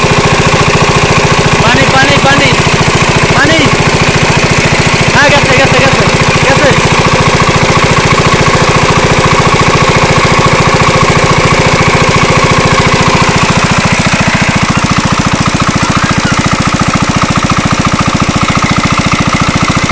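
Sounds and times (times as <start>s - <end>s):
small engine chugging: 0.0s - 19.9s.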